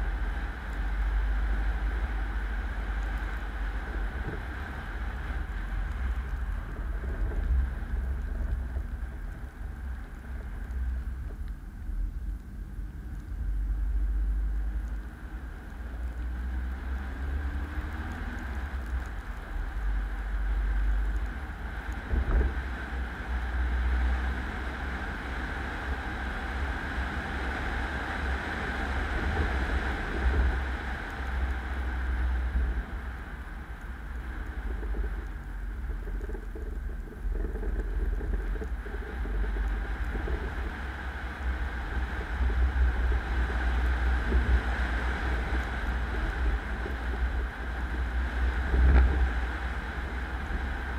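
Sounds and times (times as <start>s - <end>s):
car road and engine noise: 0.0s - 50.9s.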